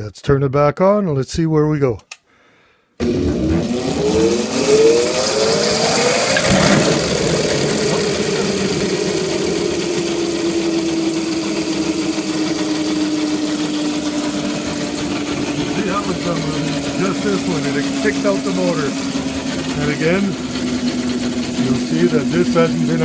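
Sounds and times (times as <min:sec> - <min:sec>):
electric motor whine: 0:03.0 - 0:23.0.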